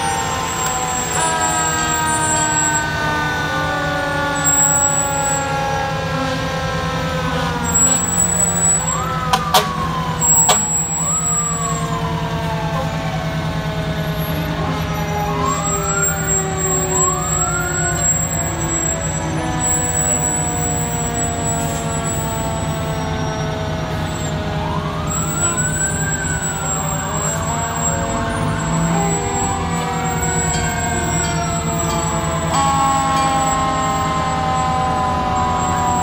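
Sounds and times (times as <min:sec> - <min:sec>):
fire truck engines: 0:00.0 - 0:36.0
short siren whoops: 0:00.0 - 0:36.0
siren winding down: 0:00.0 - 0:36.0.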